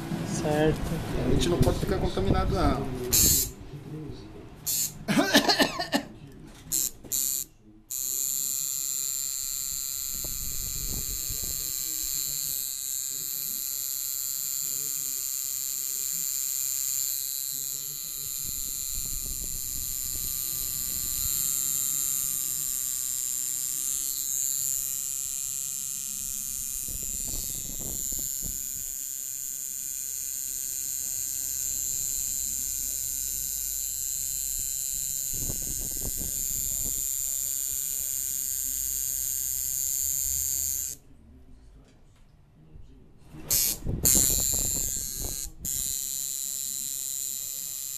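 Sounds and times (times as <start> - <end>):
tattoo machine buzzing: 3.1 - 3.6, 4.7 - 5.7, 6.7 - 41.0, 43.5 - 47.9.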